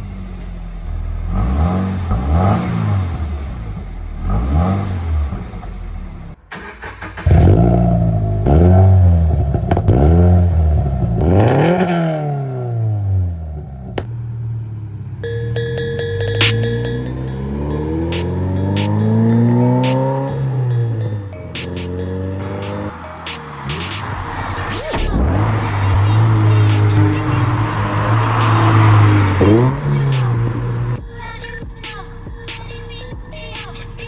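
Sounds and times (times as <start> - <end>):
car engine idling: 0.0 - 34.0
car engine revving: 0.0 - 34.0.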